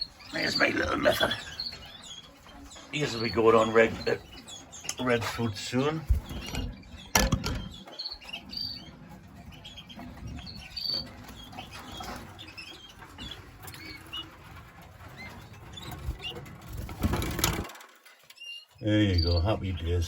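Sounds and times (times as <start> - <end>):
caged birds chirping: 0.0 - 20.0
wings fluttering in cages: 0.0 - 20.0.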